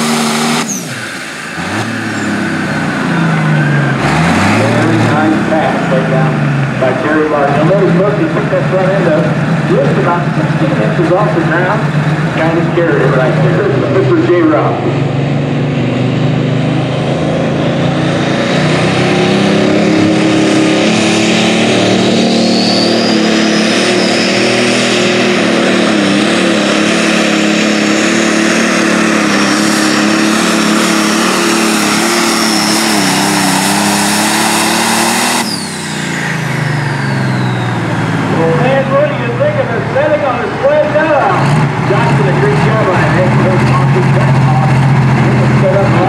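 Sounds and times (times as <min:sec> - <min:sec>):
diesel engine running under load: 0:00.0 - 0:46.0
high turbo whine: 0:00.0 - 0:46.0.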